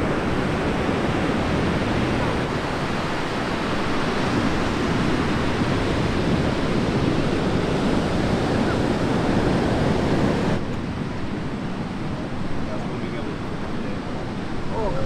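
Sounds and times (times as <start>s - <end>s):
heavy surf breaking: 0.0s - 15.0s
wind on microphone: 0.0s - 15.0s.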